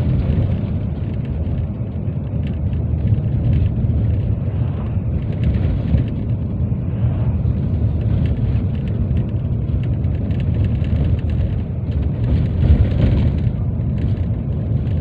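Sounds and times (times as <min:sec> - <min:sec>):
tyre and wind rumble: 0:00.0 - 0:15.0.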